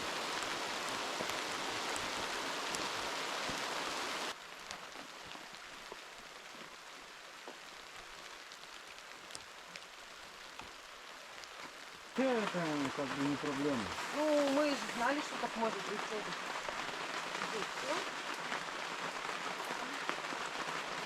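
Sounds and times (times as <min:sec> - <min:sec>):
heavy rain hiss: 0:00.0 - 0:21.0
raindrops tapping: 0:00.0 - 0:21.0.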